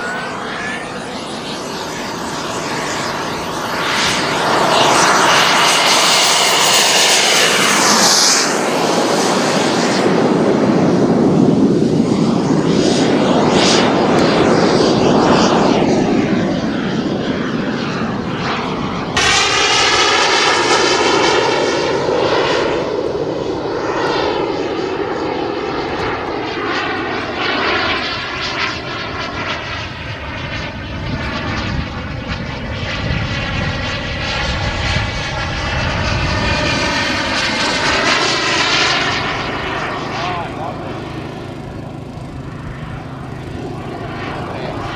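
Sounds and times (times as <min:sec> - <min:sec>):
model jet engine whine: 0:00.0 - 0:44.9.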